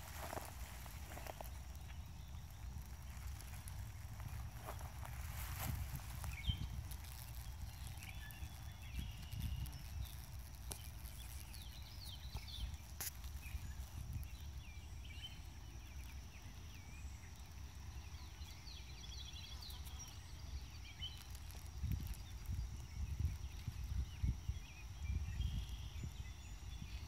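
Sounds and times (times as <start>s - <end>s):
faint birds chirping: 0.0s - 27.0s
low rumble of wind: 0.0s - 27.0s.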